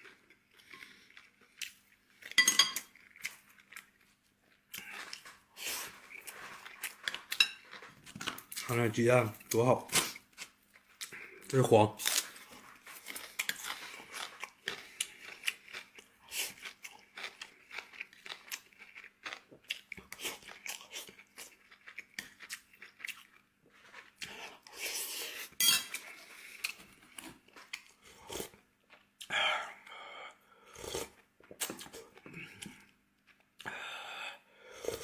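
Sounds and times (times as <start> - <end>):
person chewing and crunching: 0.0 - 34.0.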